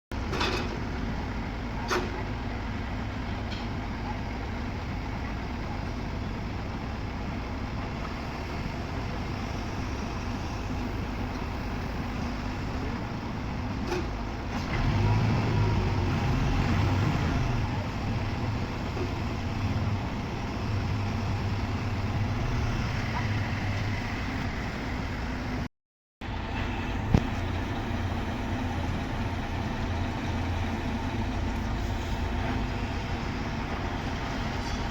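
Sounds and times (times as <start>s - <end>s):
heavy machinery engine: 0.2s - 34.9s.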